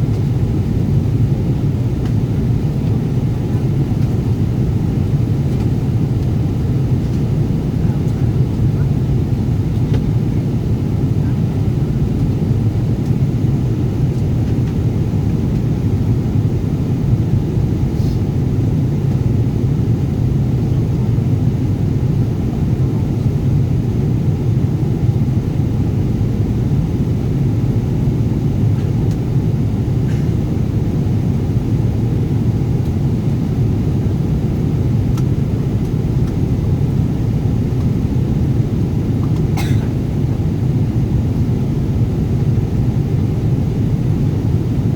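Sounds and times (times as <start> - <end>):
airliner cabin engine drone: 0.0 - 44.9.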